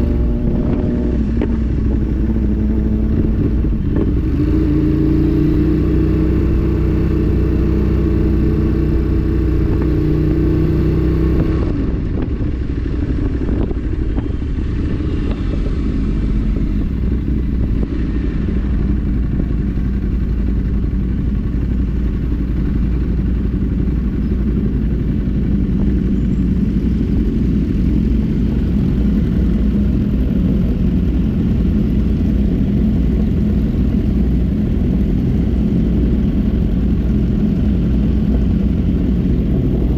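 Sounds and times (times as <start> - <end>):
motorcycle engine running: 0.0 - 39.9
wind over microphone: 0.0 - 39.9.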